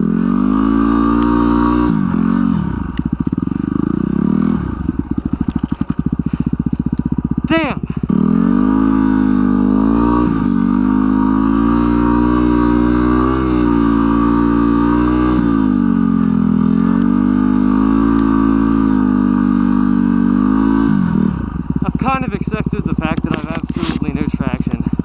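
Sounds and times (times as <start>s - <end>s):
dirt bike engine pulling: 0.0s - 25.0s.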